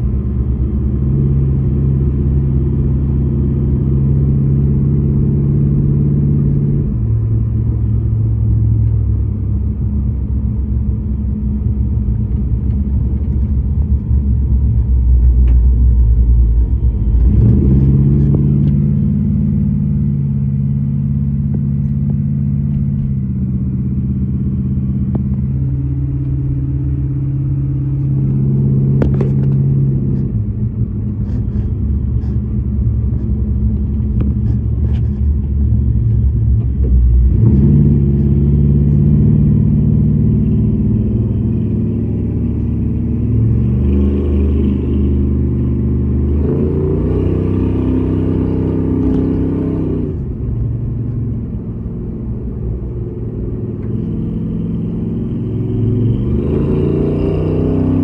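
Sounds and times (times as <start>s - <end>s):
car engine and exhaust: 0.0s - 58.0s.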